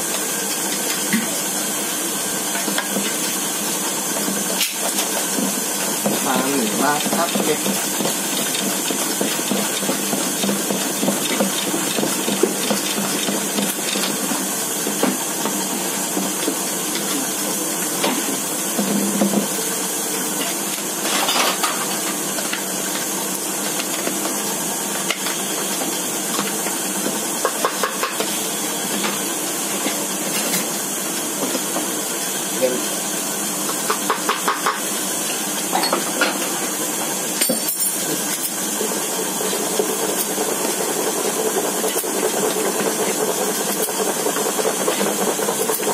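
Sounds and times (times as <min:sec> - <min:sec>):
kitchen background hiss: 0:00.0 - 0:45.9.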